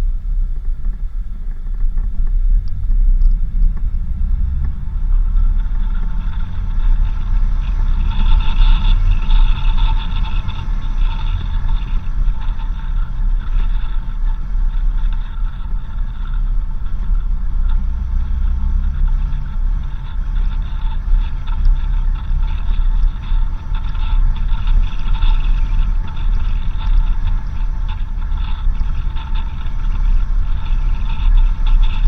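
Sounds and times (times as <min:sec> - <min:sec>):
vehicle engine and road rumble: 0:00.0 - 0:32.0.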